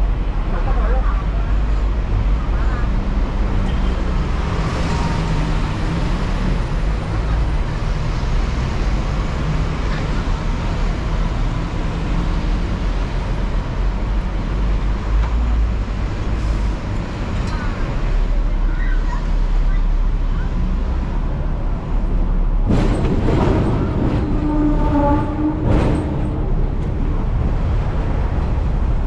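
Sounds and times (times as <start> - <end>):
street traffic noise: 0.0 - 29.0
tram rumbling: 0.0 - 29.0.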